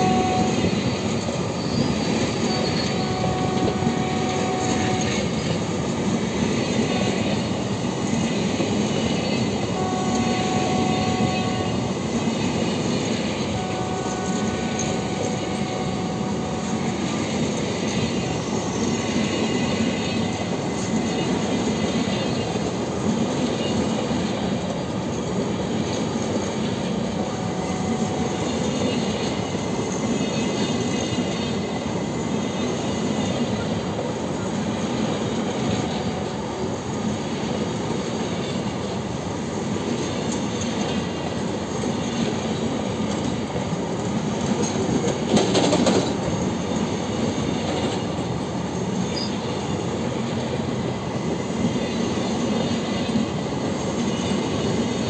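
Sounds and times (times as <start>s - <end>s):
freight train wheels rumbling: 0.0s - 55.0s
train wheels squealing: 0.0s - 55.0s.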